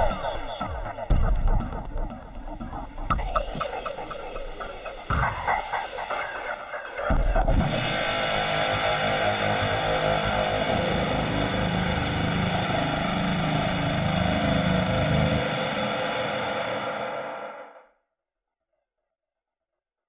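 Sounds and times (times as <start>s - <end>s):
dark ambient electronic drone: 0.0s - 17.7s.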